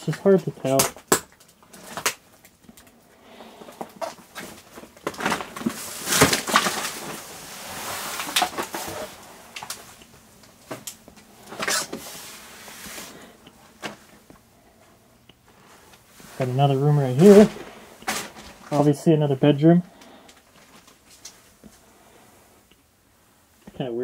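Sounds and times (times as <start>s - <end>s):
rustling: 0.0s - 22.7s.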